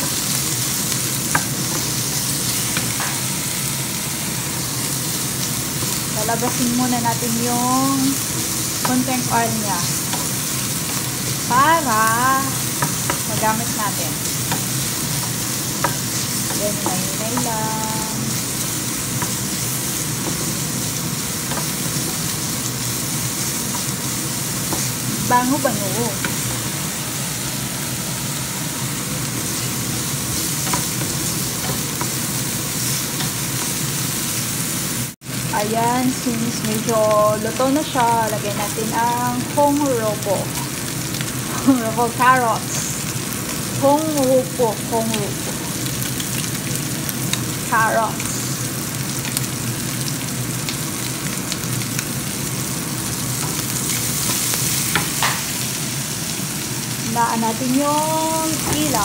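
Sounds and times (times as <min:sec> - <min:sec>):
garlic and onion sizzling in oil: 0:00.0 - 0:59.0.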